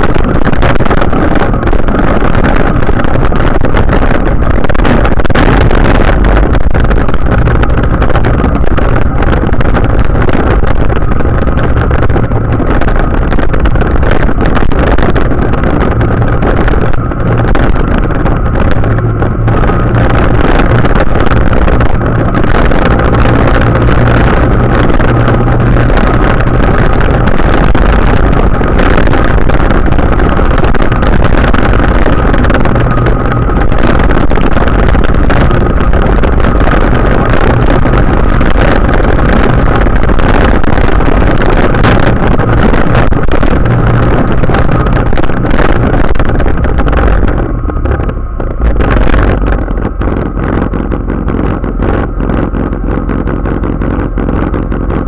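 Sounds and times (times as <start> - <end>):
snow rushing along plow: 0.0 - 55.0
tractor engine running: 0.0 - 55.0.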